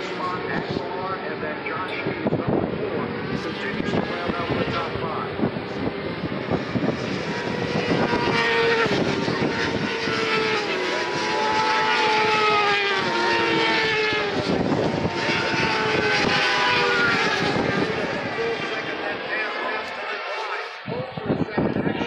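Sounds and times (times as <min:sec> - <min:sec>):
racing motorcycles passing: 0:00.0 - 0:22.0.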